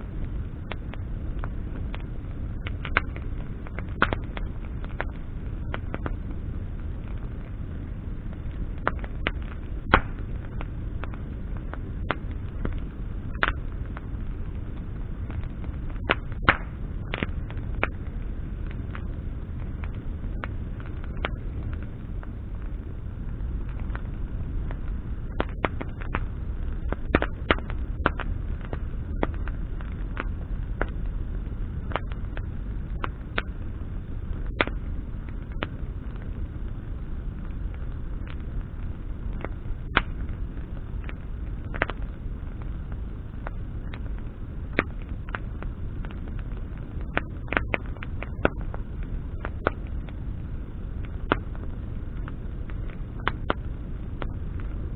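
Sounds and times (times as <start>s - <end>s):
campfire crackles and pops: 0.0s - 54.9s
low rumble of flame: 0.0s - 54.9s.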